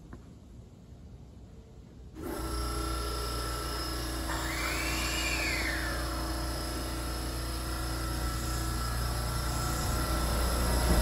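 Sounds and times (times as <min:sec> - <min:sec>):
air compressor humming and whining: 0:02.0 - 0:11.0.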